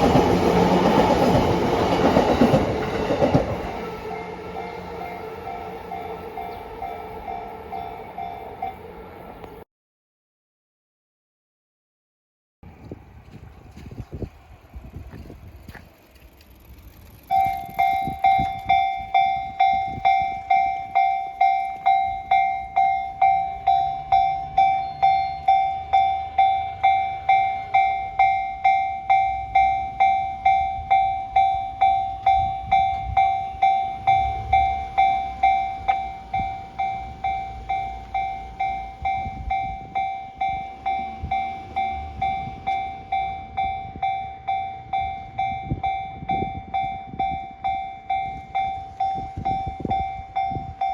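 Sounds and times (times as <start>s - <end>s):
level crossing warning bell: 0.0s - 9.6s, 17.3s - 50.9s
train rumble and wheel clatter: 0.0s - 9.6s, 12.7s - 50.9s.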